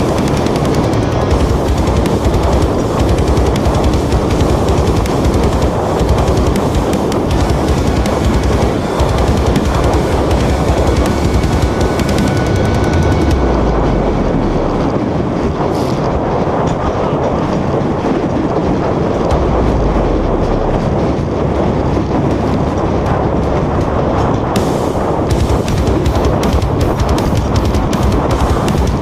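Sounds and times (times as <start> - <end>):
loud steady rumble and rushing: 0.0 - 29.0.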